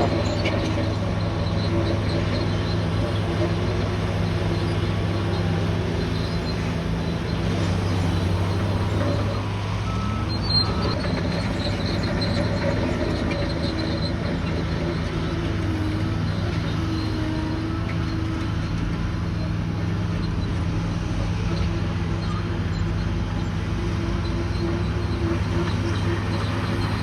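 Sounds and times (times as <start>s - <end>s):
bulldozer diesel engine running: 0.0s - 27.0s
machine squeals: 0.0s - 27.0s.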